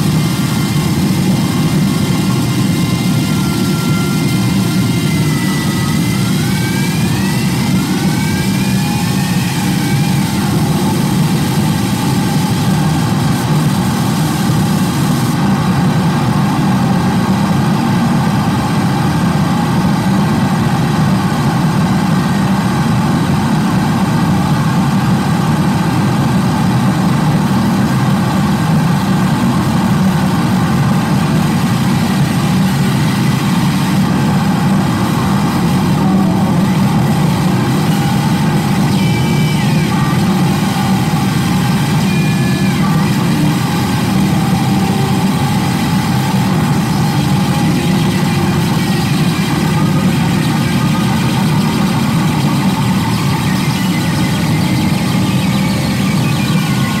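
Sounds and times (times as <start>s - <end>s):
harsh distorted noise music: 0.0s - 57.0s.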